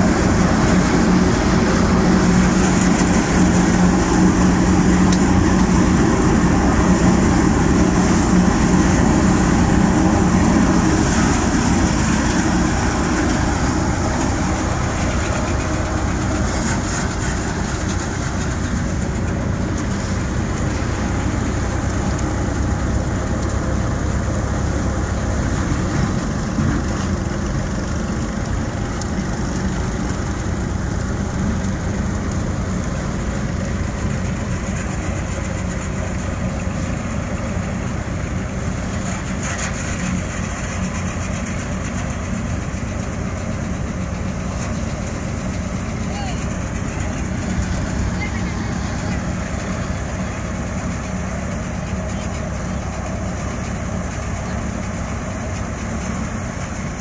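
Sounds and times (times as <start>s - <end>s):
threshing drum spinning: 0.0s - 57.0s
tractor engine running: 0.0s - 57.0s.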